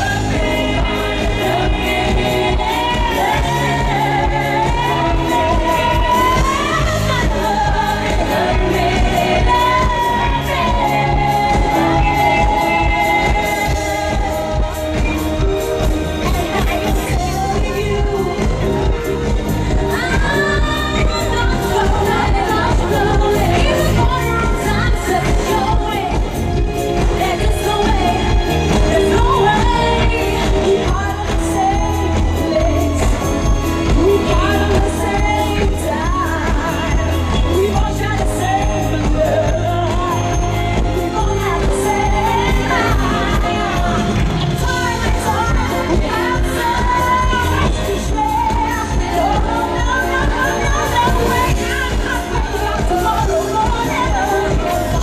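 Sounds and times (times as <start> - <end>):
pop backing music with steady beat: 0.0 - 55.0
women singing into microphones: 0.0 - 55.0.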